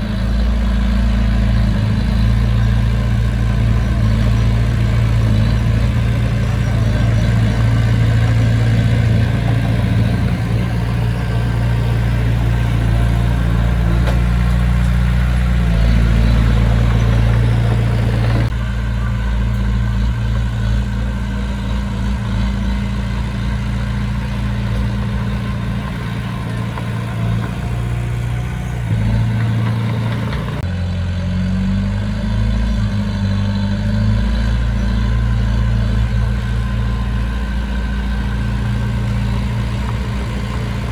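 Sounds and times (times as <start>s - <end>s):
diesel engine of heavy machinery: 0.0s - 40.9s.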